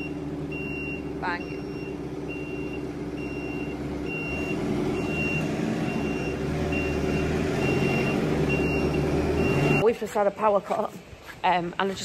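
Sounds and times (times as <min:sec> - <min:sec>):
reversing alarm beeping: 0:00.0 - 0:09.9
engine running: 0:00.0 - 0:10.4.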